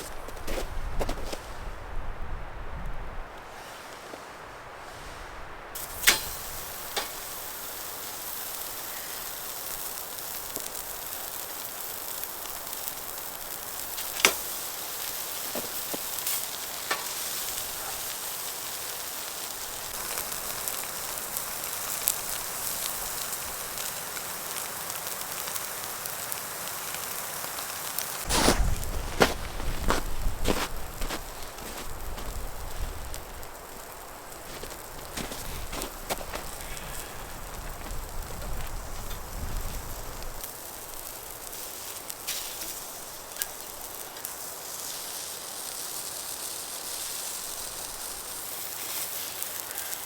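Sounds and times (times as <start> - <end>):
food sizzling in a pan: 5.8 - 50.0.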